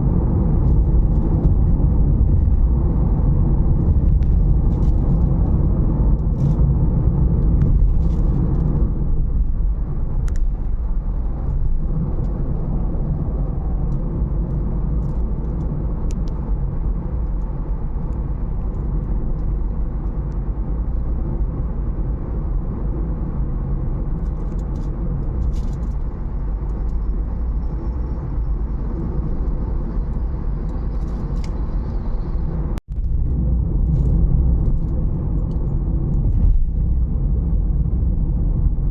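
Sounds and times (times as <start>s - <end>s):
strong wind buffeting microphone: 0.0s - 38.9s.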